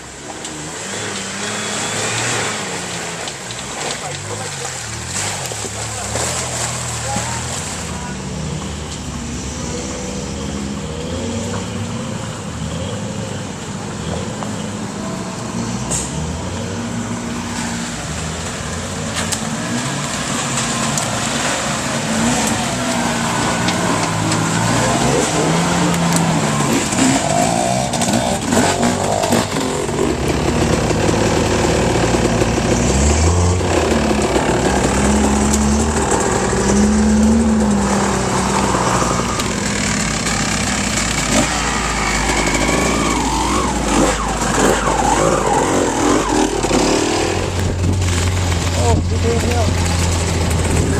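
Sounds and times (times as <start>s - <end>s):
truck engine revving: 0.0s - 50.9s.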